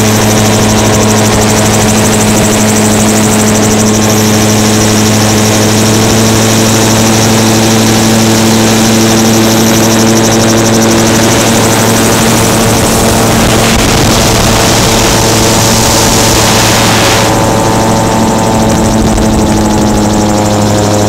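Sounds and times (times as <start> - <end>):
gyrocopter engine and propeller: 0.0 - 21.0.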